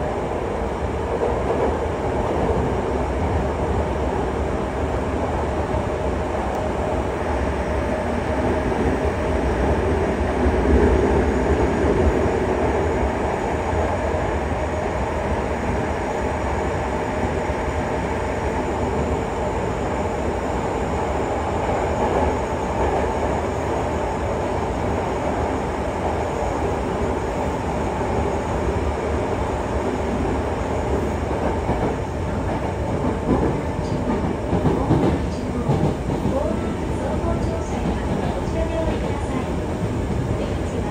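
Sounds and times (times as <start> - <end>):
subway train wheels rumbling: 0.0 - 40.9.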